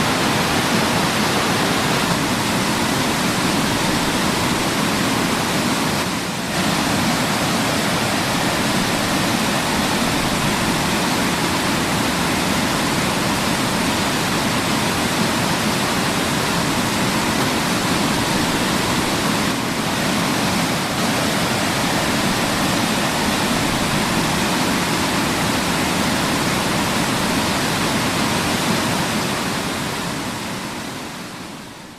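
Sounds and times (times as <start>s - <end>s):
waterfall roaring: 0.0s - 31.9s.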